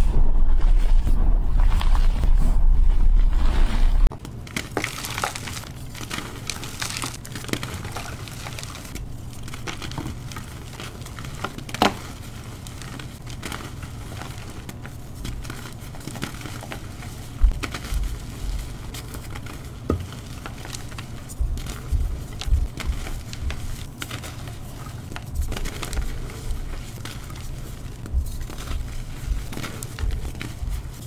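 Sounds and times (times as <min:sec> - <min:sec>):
chalk chunks cracking: 0:04.2 - 0:31.0
chalk crumbling and crunching: 0:04.4 - 0:31.0.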